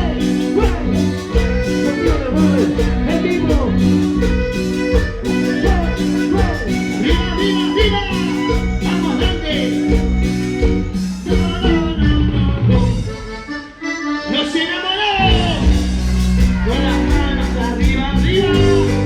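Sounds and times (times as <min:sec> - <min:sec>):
accordion-like lead melody: 0:00.0 - 0:19.0
latin dance band playing: 0:00.0 - 0:19.0.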